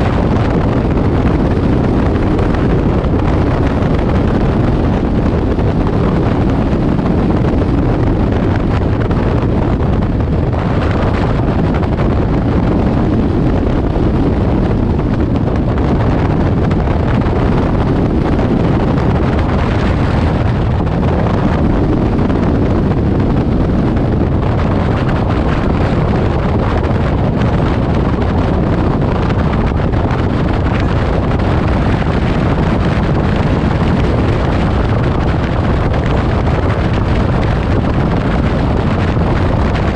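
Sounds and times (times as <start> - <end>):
light aircraft engine and propeller: 0.0 - 39.9
wind buffeting microphone: 0.0 - 39.9.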